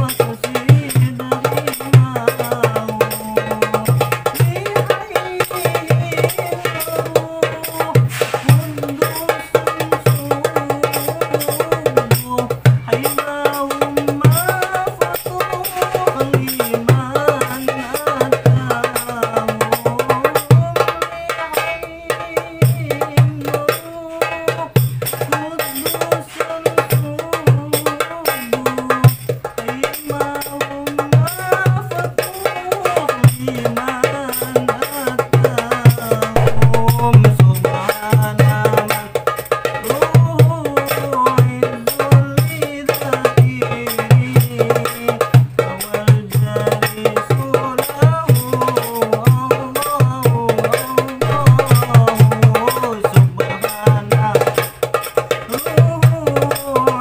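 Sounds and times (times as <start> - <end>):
devotional song melody: 0.0 - 27.9, 29.7 - 57.0
hand drum played fast: 0.0 - 57.0.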